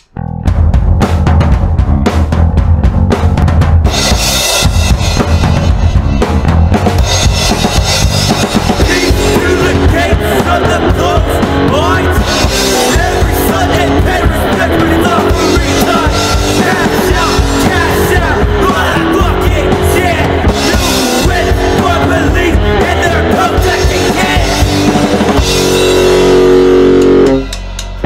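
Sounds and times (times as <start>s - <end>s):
drum kit: 0.0s - 28.0s
hardcore punk music: 0.0s - 28.0s.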